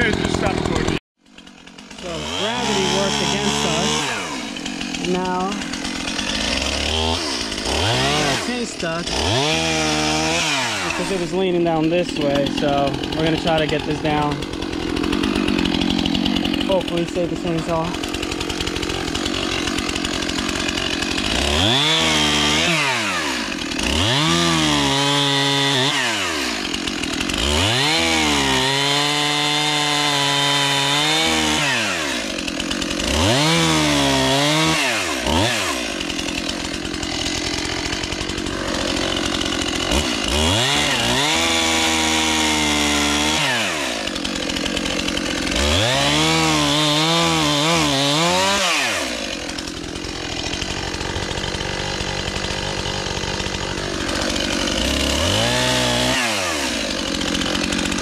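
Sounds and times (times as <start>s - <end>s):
chainsaw cutting tree trunk: 0.0s - 58.0s.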